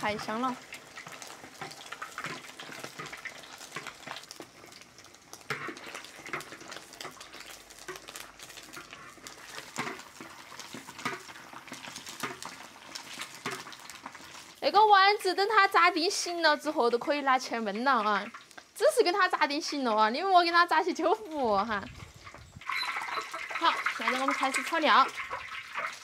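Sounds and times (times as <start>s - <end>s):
meatballs sizzling in hot oil: 0.0s - 26.0s.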